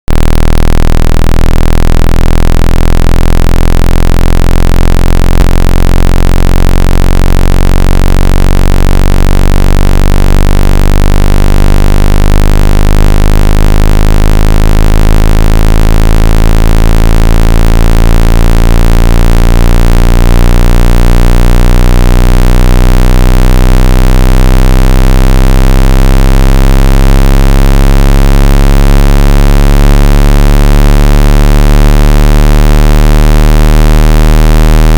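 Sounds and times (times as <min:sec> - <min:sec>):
low buzzing tone rising in pitch: 0:00.0 - 0:34.9.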